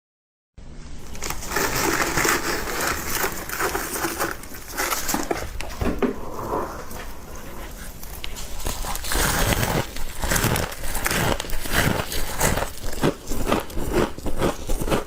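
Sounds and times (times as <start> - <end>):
frost crunching while chewed: 1.0 - 6.0, 6.9 - 15.0.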